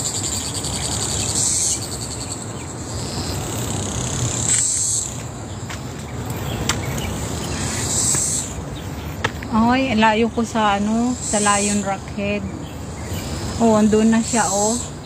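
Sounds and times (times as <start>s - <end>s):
cicadas buzzing: 0.0s - 15.0s
low background noise: 0.0s - 15.0s.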